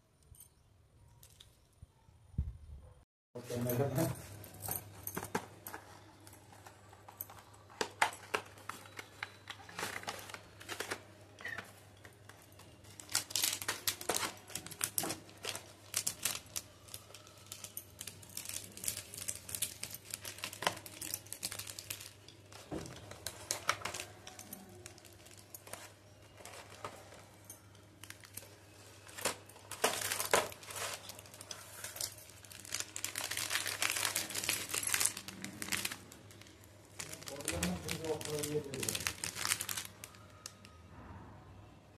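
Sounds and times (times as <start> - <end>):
plastic and foil wrappers crinkling: 3.5 - 40.8.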